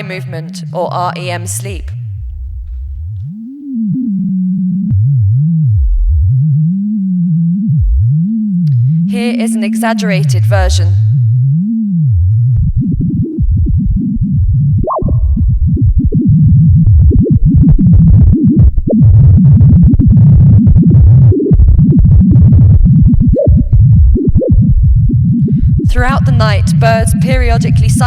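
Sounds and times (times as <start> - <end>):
electronic low flickering tone: 0.0 - 28.0.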